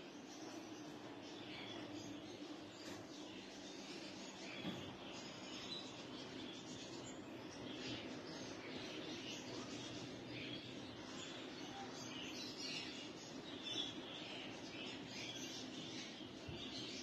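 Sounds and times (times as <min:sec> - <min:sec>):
faint birds chirping: 0:00.0 - 0:17.0
low steady hum: 0:00.0 - 0:17.0.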